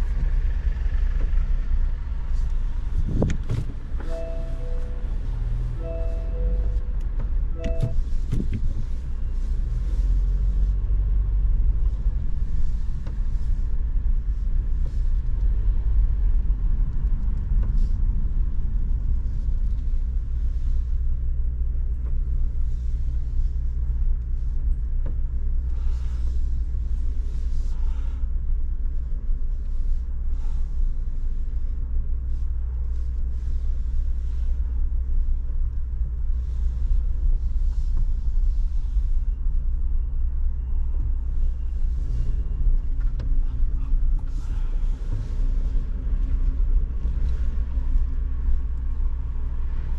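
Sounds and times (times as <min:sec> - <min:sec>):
car cabin road rumble: 0:00.0 - 0:49.9.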